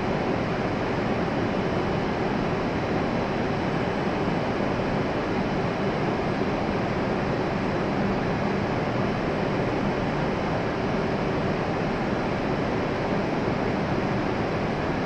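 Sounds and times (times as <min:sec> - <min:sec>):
stationary train equipment hum: 0:00.0 - 0:15.0.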